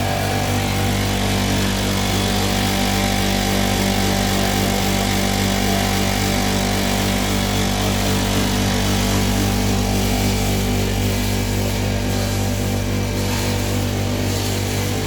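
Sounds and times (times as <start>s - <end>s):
roasting machine hum: 0.0s - 15.0s.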